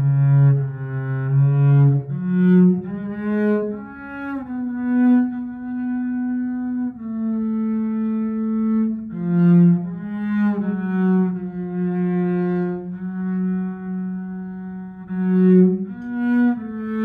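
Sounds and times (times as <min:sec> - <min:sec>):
bowed double bass melody: 0:00.0 - 0:17.0.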